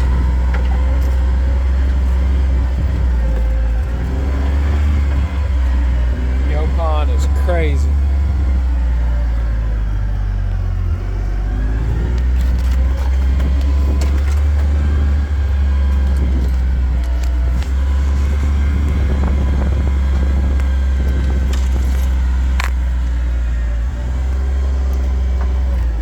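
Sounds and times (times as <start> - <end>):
rattles and knocks: 0.0 - 26.0
vehicle driving on dirt track: 0.0 - 26.0.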